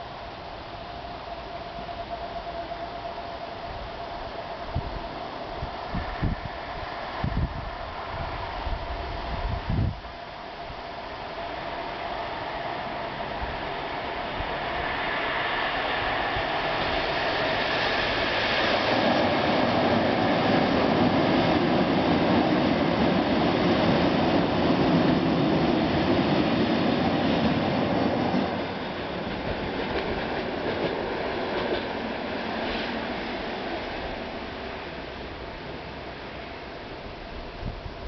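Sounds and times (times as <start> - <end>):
electric train passing: 0.0 - 38.0.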